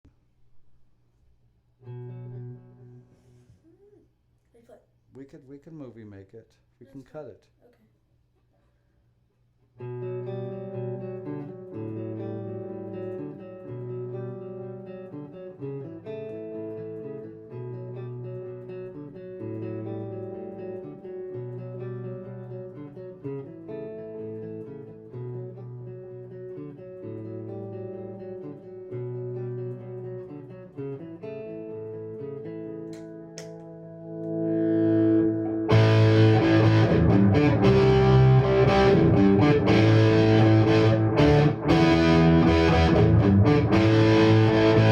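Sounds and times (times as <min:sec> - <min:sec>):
electric guitar chords ringing: 0:01.8 - 0:03.1, 0:09.8 - 0:44.9.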